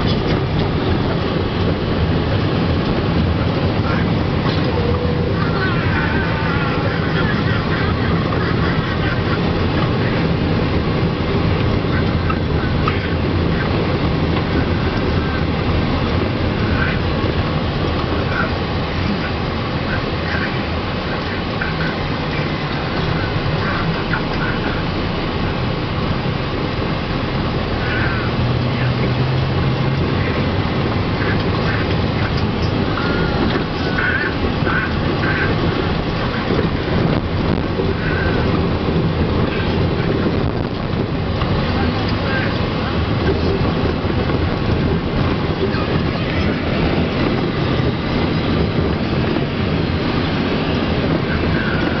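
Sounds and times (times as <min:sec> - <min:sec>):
minibus engine drone: 0:00.0 - 0:52.0.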